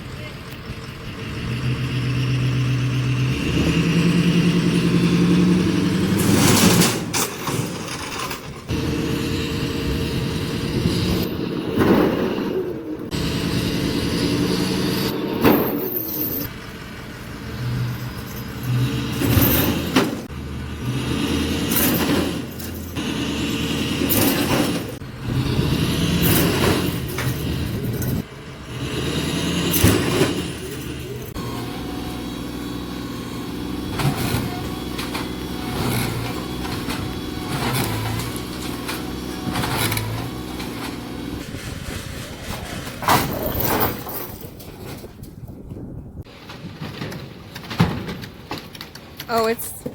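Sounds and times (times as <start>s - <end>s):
tractor engine revving: 0.0s - 44.6s.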